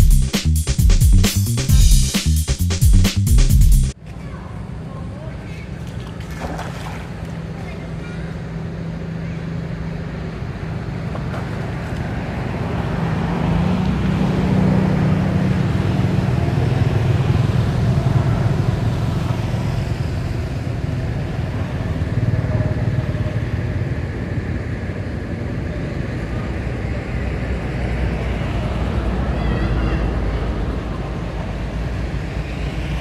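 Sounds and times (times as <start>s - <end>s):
vehicle engine drone: 4.1s - 33.0s.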